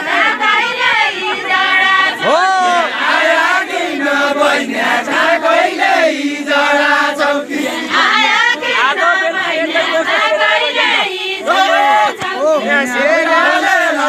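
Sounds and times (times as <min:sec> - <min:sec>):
group singing folk chant: 0:00.0 - 0:14.0.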